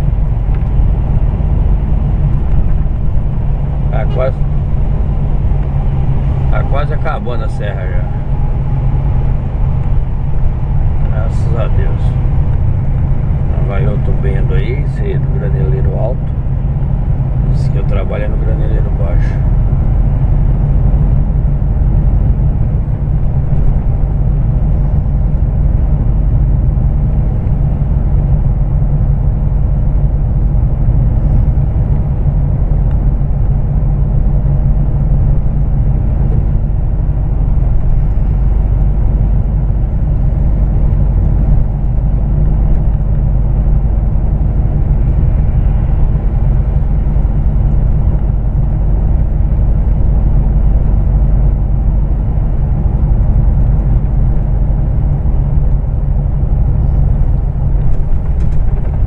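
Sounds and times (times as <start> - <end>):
diesel truck engine rumble: 0.0 - 59.0.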